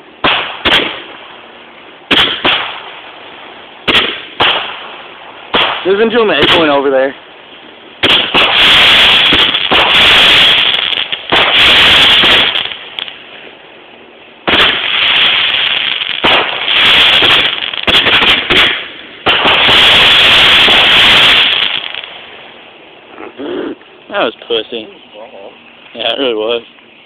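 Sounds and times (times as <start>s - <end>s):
fireworks banging: 0.0s - 13.6s, 14.4s - 25.2s.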